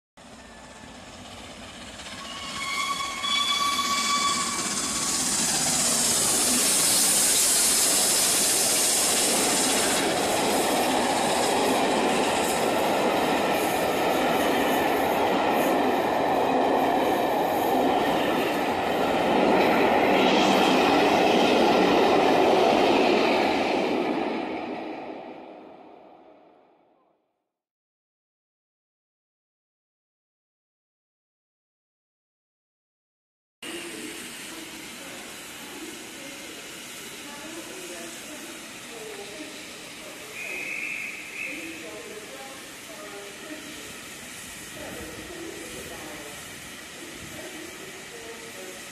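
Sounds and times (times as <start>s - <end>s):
train passing at speed: 0.2s - 26.8s, 33.6s - 48.9s.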